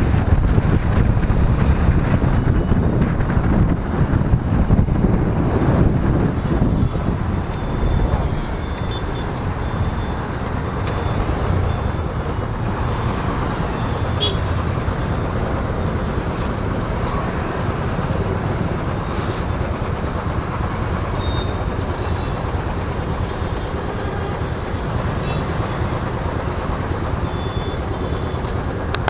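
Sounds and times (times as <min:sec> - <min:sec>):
motorcycle engine: 0:00.0 - 0:29.0
road noise: 0:00.0 - 0:29.0.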